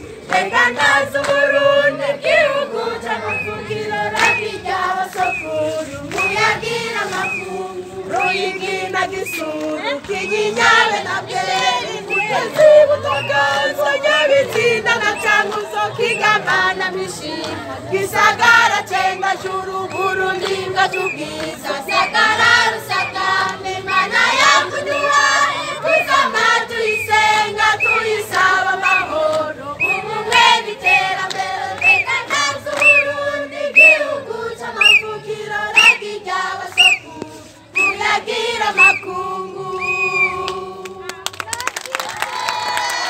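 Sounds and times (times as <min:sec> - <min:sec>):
group singing in chorus: 0:00.0 - 0:41.1.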